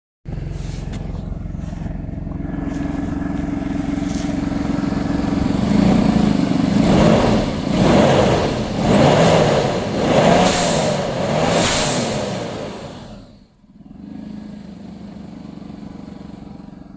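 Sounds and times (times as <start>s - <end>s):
car engine idling and revving: 0.2s - 16.9s.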